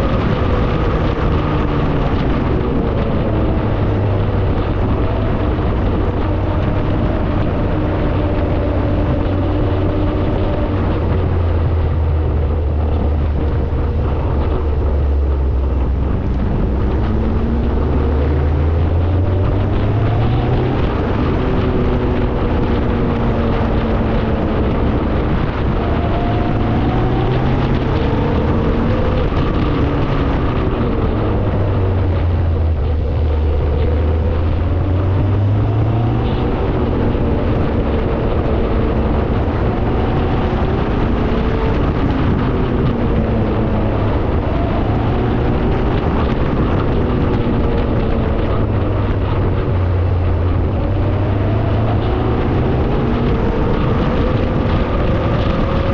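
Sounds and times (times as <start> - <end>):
car engine running: 0.0 - 55.9
road noise: 0.0 - 55.9.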